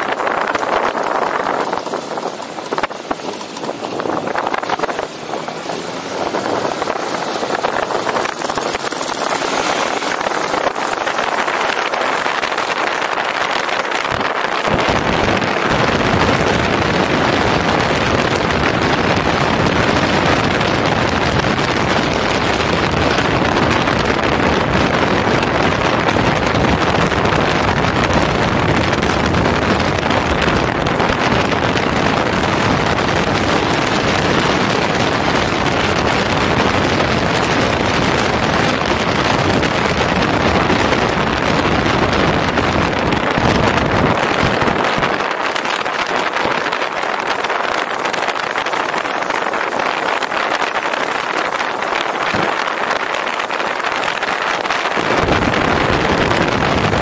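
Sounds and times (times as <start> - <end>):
motorcycle running: 0.0 - 57.0
wind rushing over microphone: 0.0 - 57.0.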